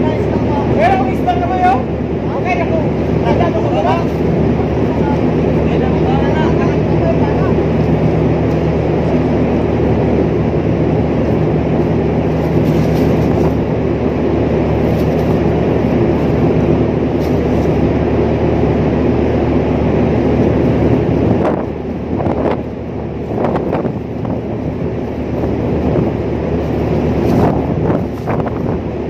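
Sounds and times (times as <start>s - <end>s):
ship engine machinery drone: 0.0s - 29.0s
wind noise: 0.0s - 29.0s.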